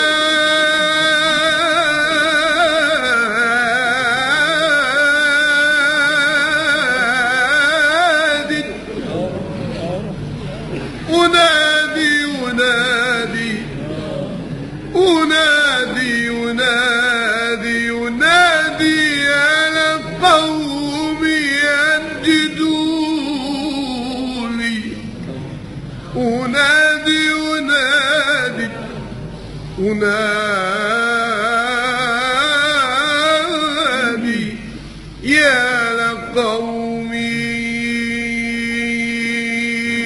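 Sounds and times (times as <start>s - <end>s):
man singing religious chant: 0.0s - 10.0s, 11.0s - 25.1s, 26.1s - 29.0s, 29.8s - 40.0s.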